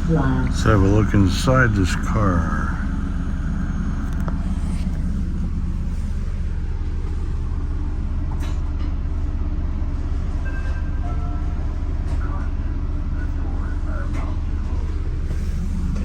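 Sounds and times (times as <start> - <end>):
train coach low rumble: 0.0 - 16.0.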